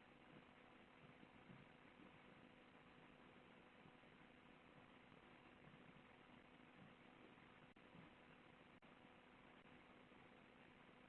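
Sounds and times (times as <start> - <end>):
faint steady hiss: 0.0 - 11.0
low hum: 0.0 - 11.0.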